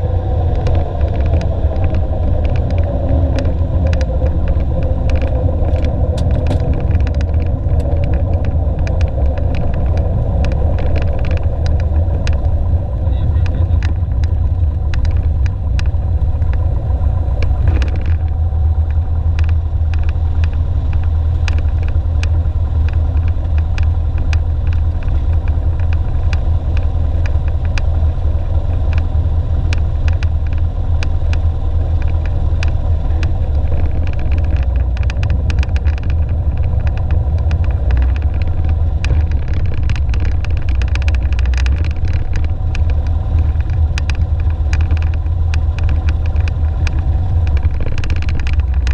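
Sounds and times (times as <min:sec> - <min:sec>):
propeller plane engine drone: 0:00.0 - 0:48.9
clicks and rattles: 0:00.5 - 0:48.9.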